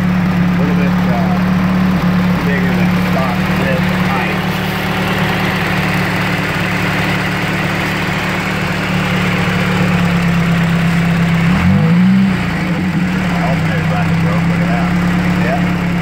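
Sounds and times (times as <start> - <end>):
car engine idling: 0.0 - 16.0
engine revving: 0.0 - 16.0.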